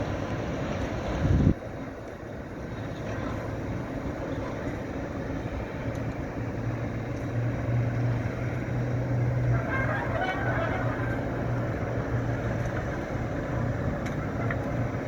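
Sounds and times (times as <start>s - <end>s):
low motor hum: 0.0s - 15.0s
train rumbling: 0.0s - 15.0s.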